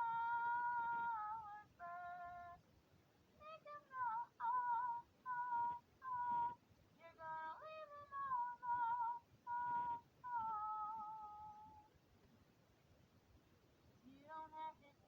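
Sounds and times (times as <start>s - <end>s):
high voice singing unaccompanied: 0.0s - 2.6s, 3.4s - 11.9s, 14.0s - 15.0s.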